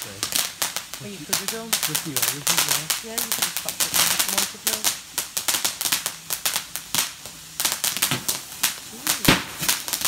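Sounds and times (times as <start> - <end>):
fireworks crackling: 0.0 - 10.0
heavy firework bang: 0.0 - 10.0.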